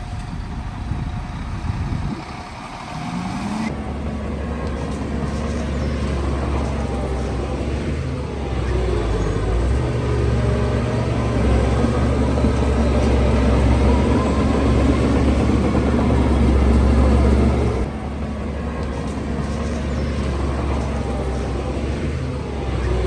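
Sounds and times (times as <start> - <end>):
construction machinery droning: 0.0 - 23.0.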